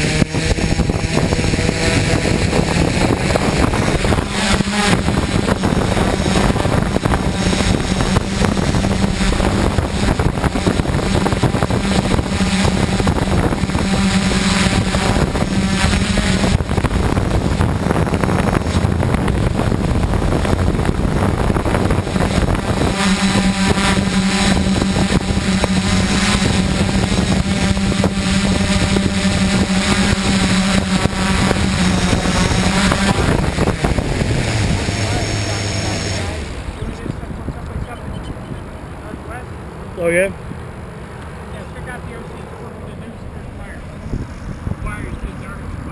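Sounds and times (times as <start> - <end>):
constant rushing noise: 0.0 - 45.9
drone motors humming: 0.0 - 45.9.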